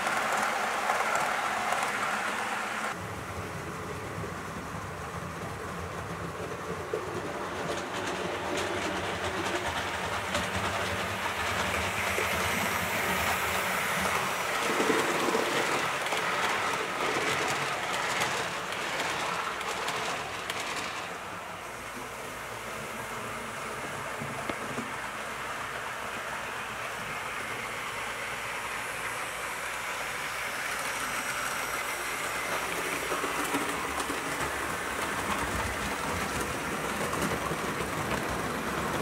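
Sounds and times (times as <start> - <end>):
wheels clicking over track: 0.0 - 28.0, 28.6 - 39.0.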